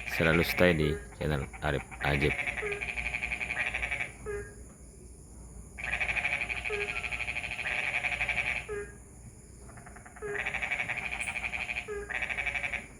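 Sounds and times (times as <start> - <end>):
frogs rattling trill: 0.0 - 4.6, 5.8 - 12.9.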